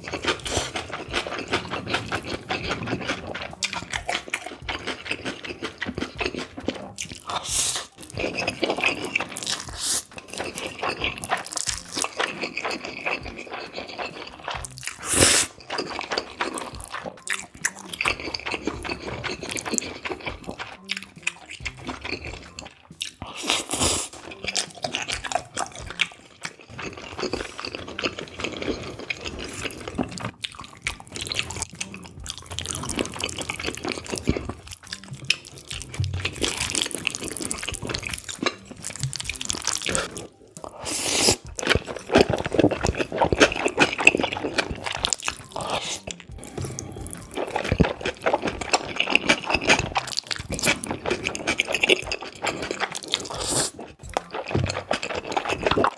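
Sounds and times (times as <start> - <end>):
slurping noodles: 0.0 - 20.8, 21.6 - 55.9
wet chewing: 0.0 - 55.9.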